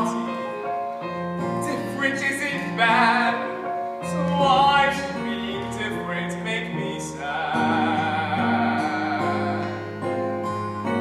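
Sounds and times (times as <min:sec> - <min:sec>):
man singing with vibrato: 0:00.0 - 0:01.0, 0:01.6 - 0:11.0
piano accompaniment: 0:00.0 - 0:11.0.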